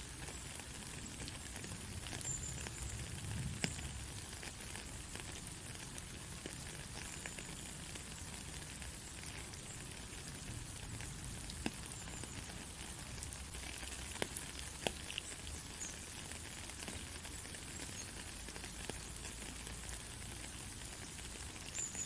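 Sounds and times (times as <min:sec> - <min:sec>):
rain patter on road: 0:00.0 - 0:22.0.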